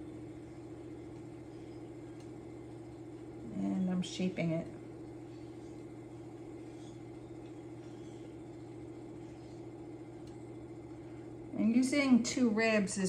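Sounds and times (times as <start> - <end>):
potter's wheel motor humming: 0.0 - 13.0.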